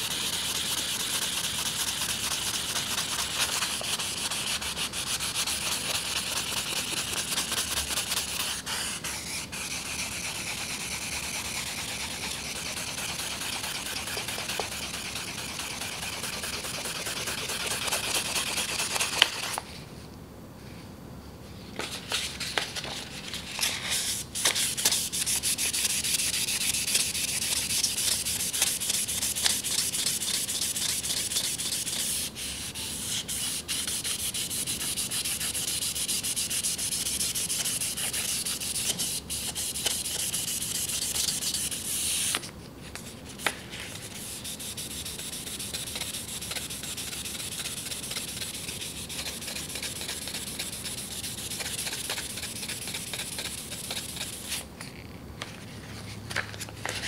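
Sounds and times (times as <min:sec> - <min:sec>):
sandpaper rubbing on steel: 0:00.0 - 0:19.6, 0:24.0 - 0:42.4, 0:43.4 - 0:54.6.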